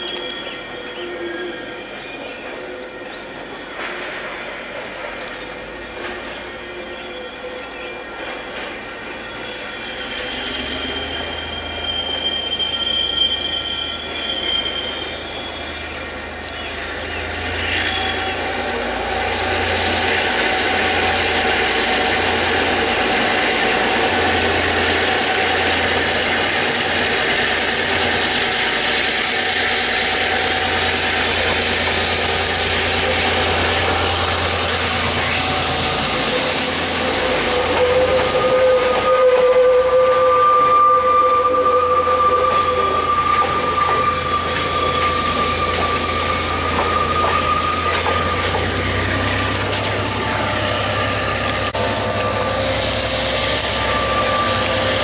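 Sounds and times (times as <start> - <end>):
diesel locomotive engine under load: 0.0 - 55.0
high wheel squeal: 0.0 - 55.0
wagons rumbling and clattering on rails: 0.0 - 55.0.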